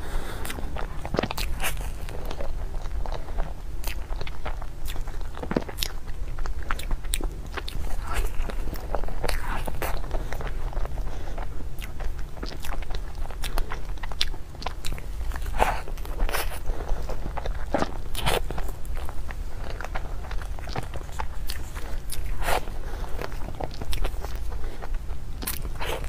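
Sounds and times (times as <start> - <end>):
chewing and crunching: 0.0 - 26.0
low steady hum: 0.0 - 26.0.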